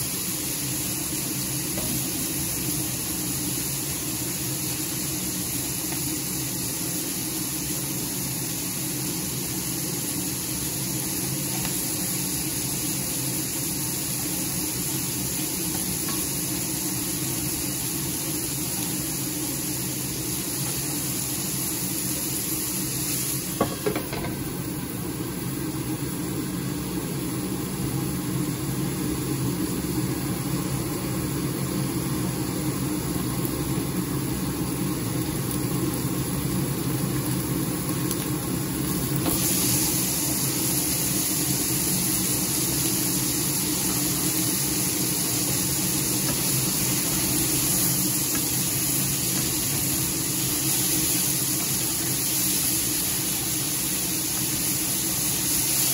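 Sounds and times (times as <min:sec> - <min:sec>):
chicken sizzling in a frying pan: 0:00.0 - 0:55.9.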